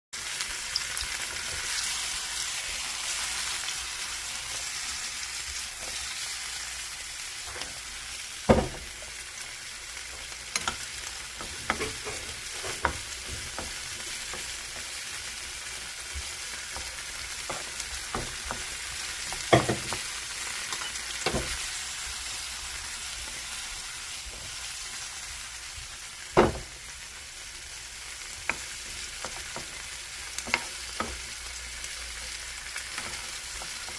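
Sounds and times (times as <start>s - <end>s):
food sizzling in hot oil: 0.2s - 33.9s.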